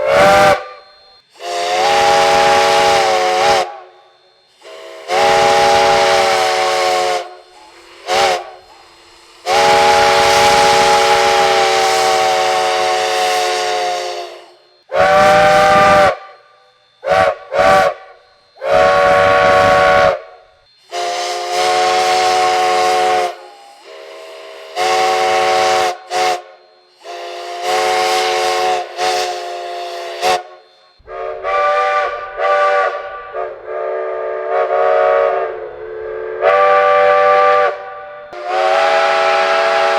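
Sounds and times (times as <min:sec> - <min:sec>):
steam hissing: 0:00.0 - 0:39.9
steam locomotive chime whistle: 0:00.0 - 0:39.9.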